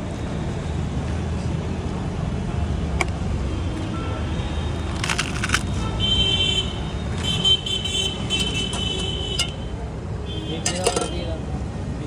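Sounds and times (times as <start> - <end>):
street traffic rumbling: 0.0 - 12.0.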